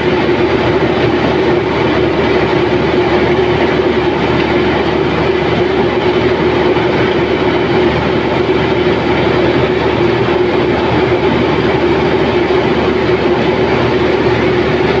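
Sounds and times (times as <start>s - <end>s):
combine harvester engine drone: 0.0s - 15.0s.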